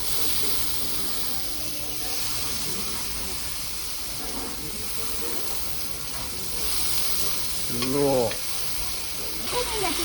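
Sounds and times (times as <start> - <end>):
meat sizzling on a hot plate: 0.0 - 10.0.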